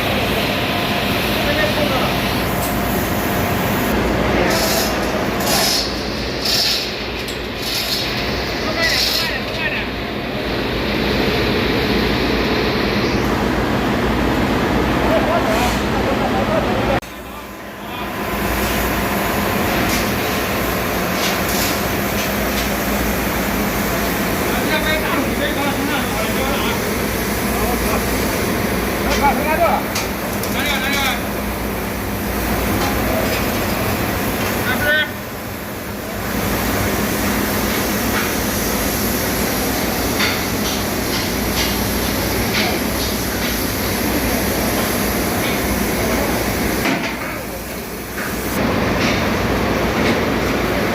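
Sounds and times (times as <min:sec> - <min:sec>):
engine room machinery: 0:00.0 - 0:50.9.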